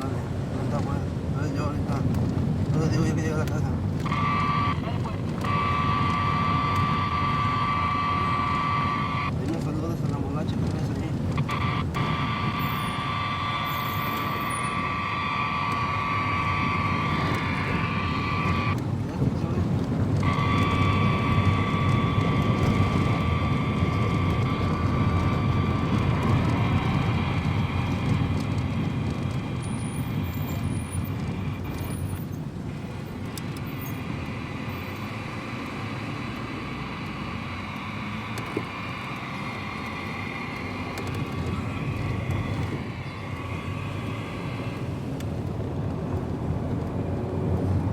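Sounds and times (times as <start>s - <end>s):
road noise: 0.0s - 47.9s
vehicle engine rumble: 0.0s - 47.9s.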